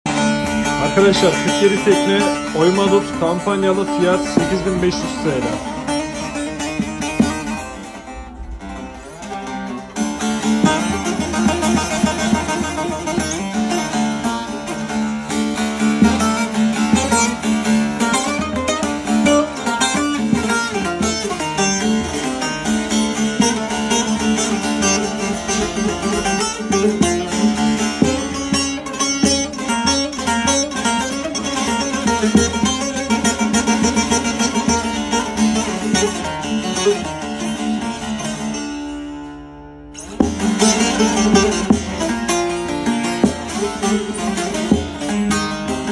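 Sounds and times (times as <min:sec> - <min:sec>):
long-necked lute picked with plectrum: 0:00.1 - 0:45.9.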